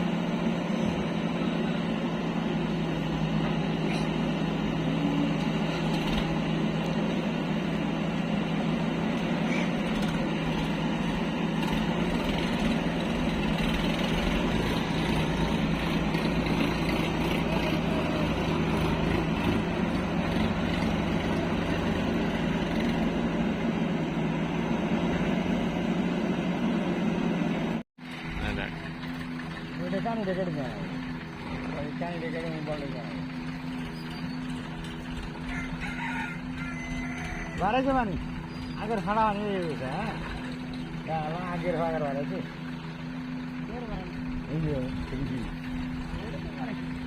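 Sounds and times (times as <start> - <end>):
diesel machinery engine running: 0.0 - 47.0.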